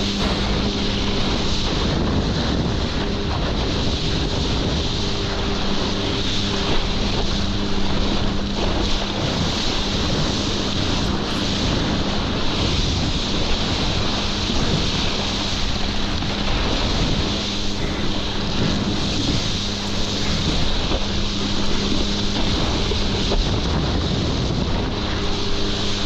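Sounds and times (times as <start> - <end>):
jet ski engine humming: 0.0 - 26.0
rushing water: 0.0 - 26.0
wind noise on microphone: 0.0 - 26.0.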